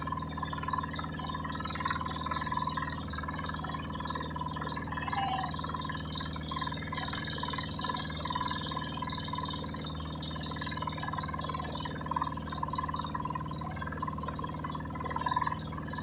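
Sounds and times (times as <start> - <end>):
boat engine running steadily: 0.0 - 16.0.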